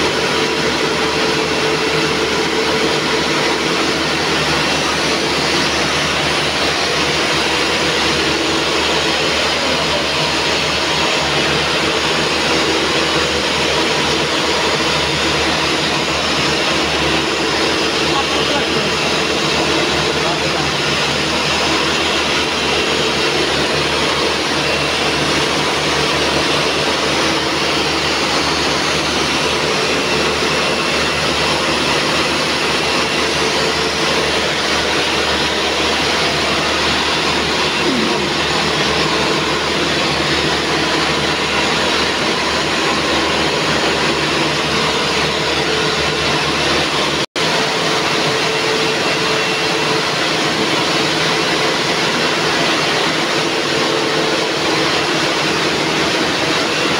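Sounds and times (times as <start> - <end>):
zipper machines running: 0.0 - 56.9.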